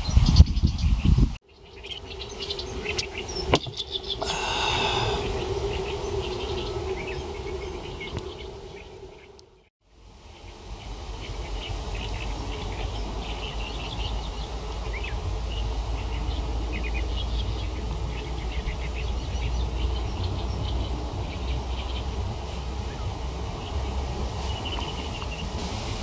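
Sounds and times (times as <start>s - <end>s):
small birds chirping: 0.0s - 9.7s, 10.3s - 26.0s
wind buffeting microphone: 0.0s - 26.0s.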